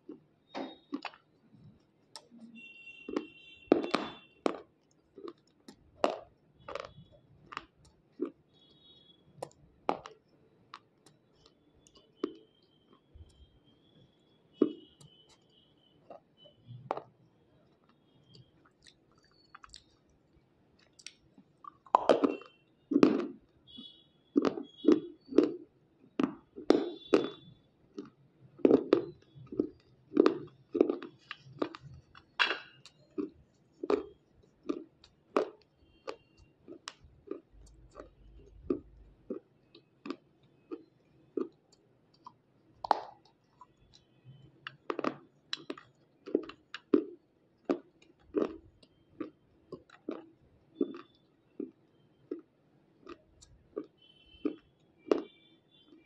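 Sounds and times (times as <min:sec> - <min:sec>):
chewing and crunching: 0:00.0 - 0:13.6, 0:14.2 - 0:56.0.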